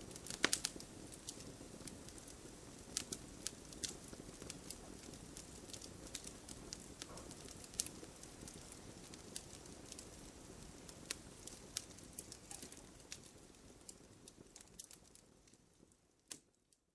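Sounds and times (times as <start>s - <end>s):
low rumble of burning: 0.0s - 16.9s
wood fire crackling: 0.0s - 16.9s.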